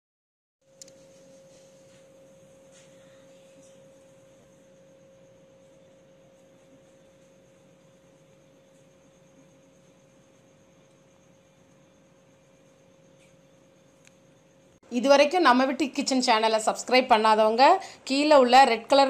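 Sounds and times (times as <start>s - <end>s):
faint high whine: 0.6s - 19.0s
faint steady hum: 0.6s - 19.0s.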